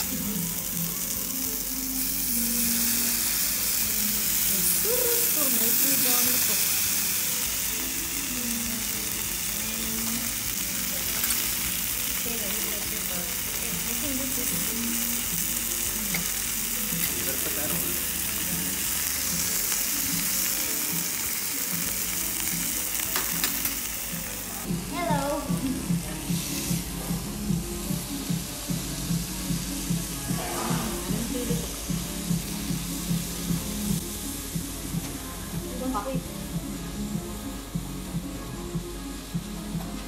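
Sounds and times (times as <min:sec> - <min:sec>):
background music: 0:00.0 - 0:40.0
meat sizzling on grill: 0:00.0 - 0:40.0.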